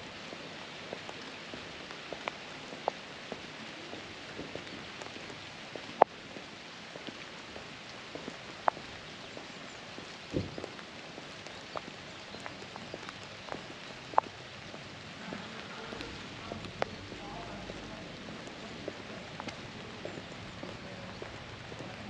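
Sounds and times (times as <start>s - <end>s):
falling rain hiss: 0.0s - 22.0s.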